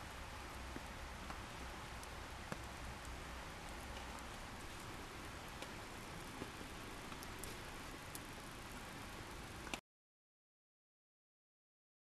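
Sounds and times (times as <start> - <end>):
campfire hissing and crackling: 0.0 - 9.8.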